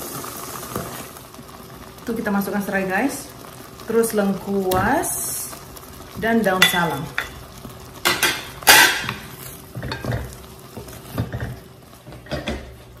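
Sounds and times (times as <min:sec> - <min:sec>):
spice paste sizzling in oil: 0:00.0 - 0:13.0.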